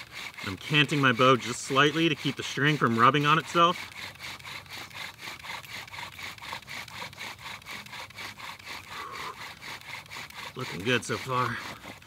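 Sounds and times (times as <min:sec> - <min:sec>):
bow drill scraping: 0:00.0 - 0:12.0.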